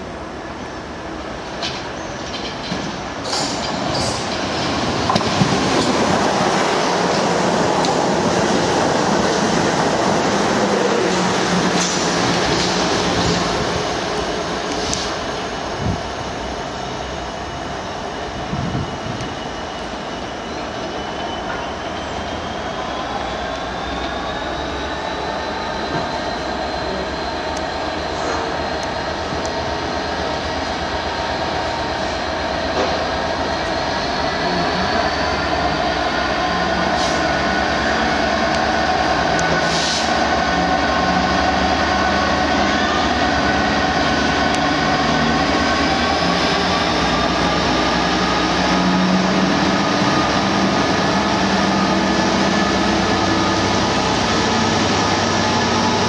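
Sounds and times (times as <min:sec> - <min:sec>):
diesel locomotive approaching: 0:00.0 - 0:56.0.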